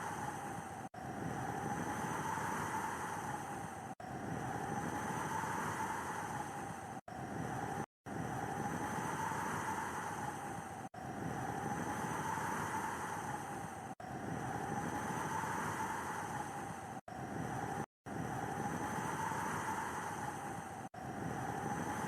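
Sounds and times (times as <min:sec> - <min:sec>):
blizzard wind: 0:00.0 - 0:22.0.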